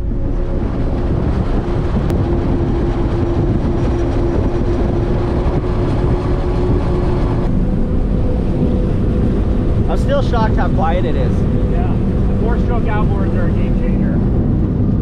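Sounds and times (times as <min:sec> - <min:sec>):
wind and water rushing: 0:00.0 - 0:14.8
outboard engines running at high speed: 0:00.0 - 0:15.0.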